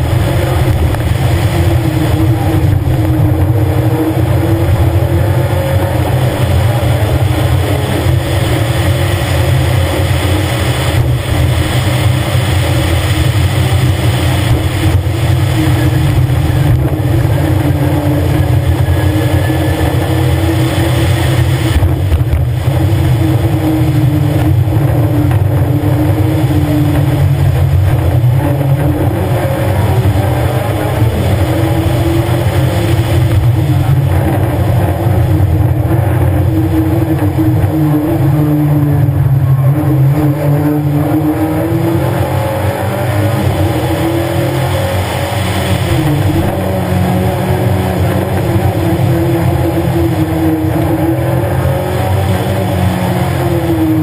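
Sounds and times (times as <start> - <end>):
rally car engine running hard: 0.0 - 54.0.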